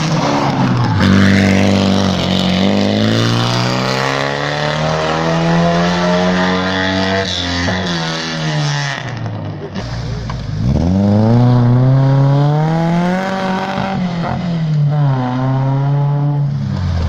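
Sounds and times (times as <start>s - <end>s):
rally car engines revving: 0.0s - 17.0s.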